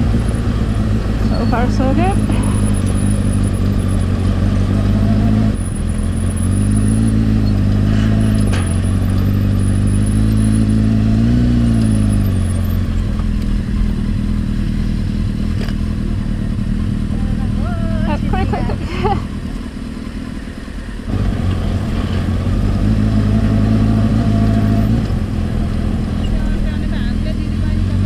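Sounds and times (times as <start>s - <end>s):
motorcycle engine at low revs: 0.0s - 28.0s.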